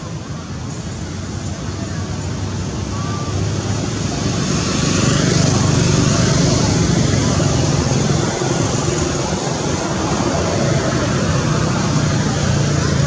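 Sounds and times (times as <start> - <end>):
road noise: 0.0 - 13.0
vehicle engine: 0.0 - 13.0.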